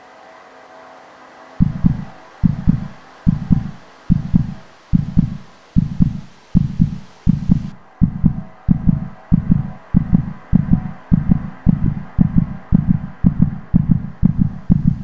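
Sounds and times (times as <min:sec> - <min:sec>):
heartbeat thumps: 0:01.6 - 0:15.0.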